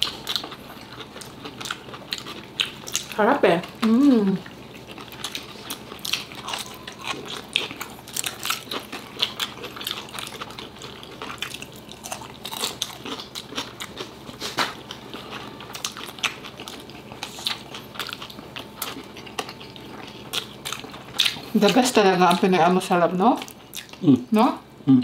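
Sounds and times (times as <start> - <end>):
people chewing and crunching: 0.0 - 25.0.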